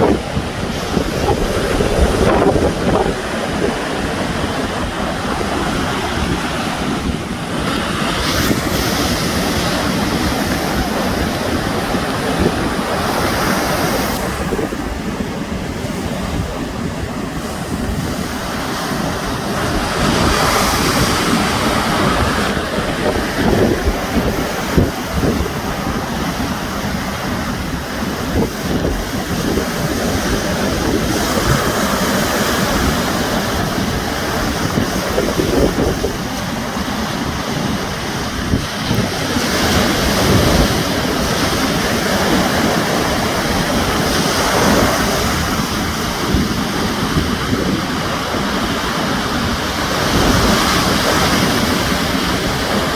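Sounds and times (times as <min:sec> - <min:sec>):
sea waves washing on shore: 0:00.0 - 0:52.9
wind rumbling on microphone: 0:00.0 - 0:52.9.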